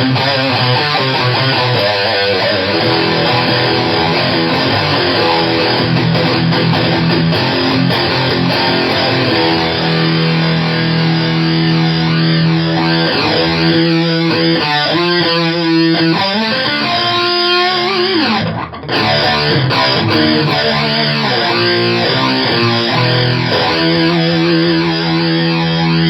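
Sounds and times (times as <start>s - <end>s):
distorted electric guitar with phaser: 0.0s - 26.0s.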